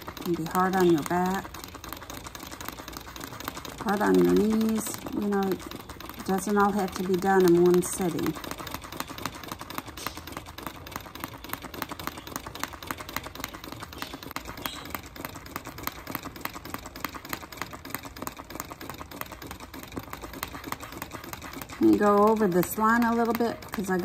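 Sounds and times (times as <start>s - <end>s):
sewing machine stitching: 0.0s - 24.0s.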